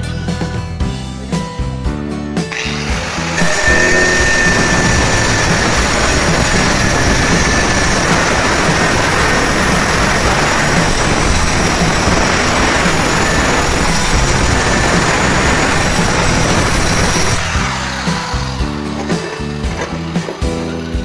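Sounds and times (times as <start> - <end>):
angle grinder cutting tile: 2.5 - 21.0.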